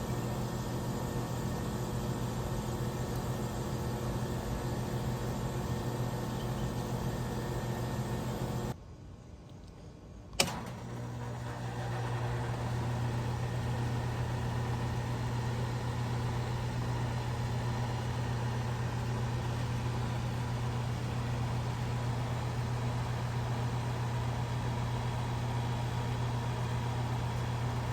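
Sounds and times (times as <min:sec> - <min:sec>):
air conditioning compressor humming: 0:00.0 - 0:08.8, 0:10.3 - 0:27.9.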